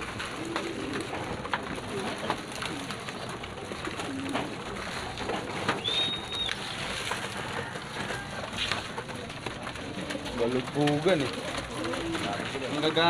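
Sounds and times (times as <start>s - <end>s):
pigeon wings flapping and clapping: 0.0s - 13.0s
pigeons cooing: 0.0s - 13.0s.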